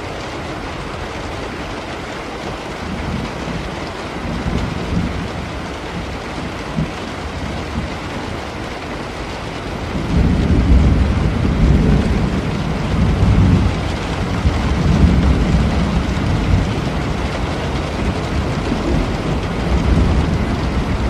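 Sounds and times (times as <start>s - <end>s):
steady rain falling: 0.0s - 21.0s
thunder rumbling: 2.8s - 8.4s, 9.2s - 21.0s.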